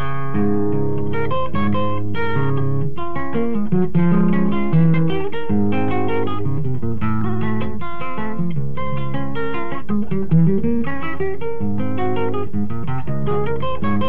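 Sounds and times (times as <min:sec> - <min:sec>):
classical guitar playing: 0:00.0 - 0:14.0.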